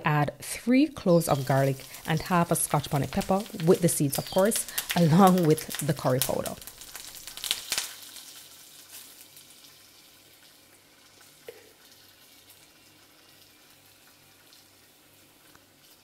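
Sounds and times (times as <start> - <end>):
spices sizzling in hot oil: 0.2 - 16.0.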